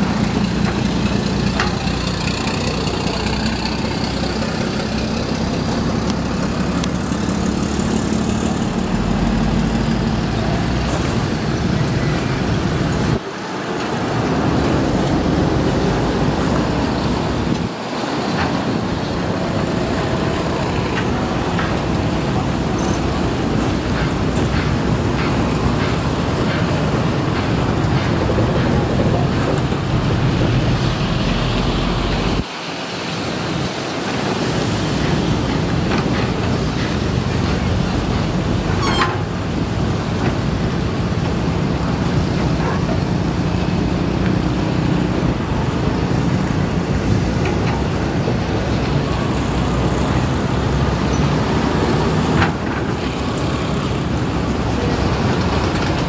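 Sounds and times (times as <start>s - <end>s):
excavator diesel engine running: 0.0s - 32.5s, 34.1s - 56.0s.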